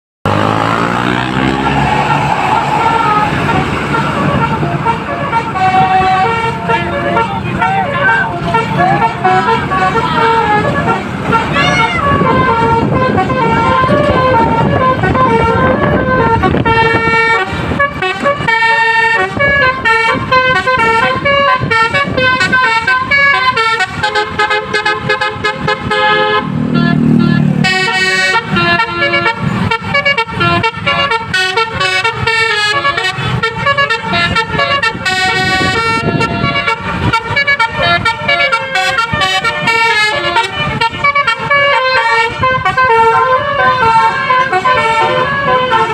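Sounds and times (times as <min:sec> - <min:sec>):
musical air horn playing a tune: 0:00.3 - 0:45.9.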